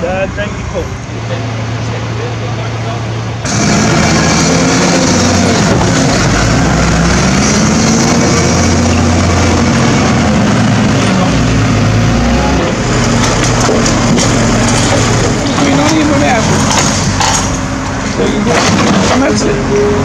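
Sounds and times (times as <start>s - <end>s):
heavy machinery diesel engine revving: 0.0s - 20.0s.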